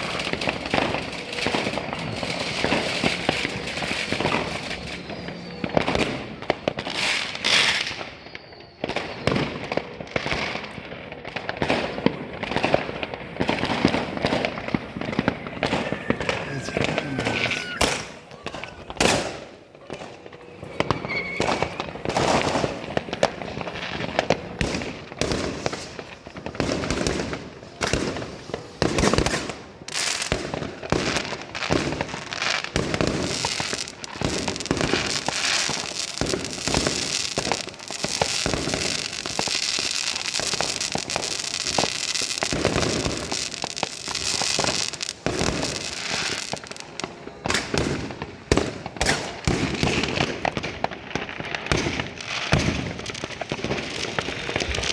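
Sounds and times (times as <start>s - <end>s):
firecrackers crackling: 0.0s - 54.9s
fireworks bangs and pops: 0.0s - 54.9s.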